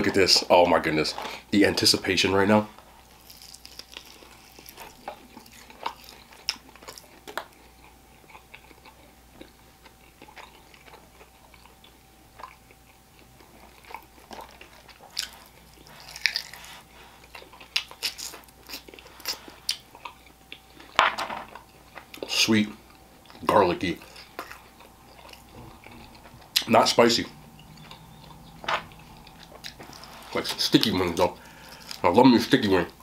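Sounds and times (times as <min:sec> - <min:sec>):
crunchy chewing of chicken: 0:02.8 - 0:32.2.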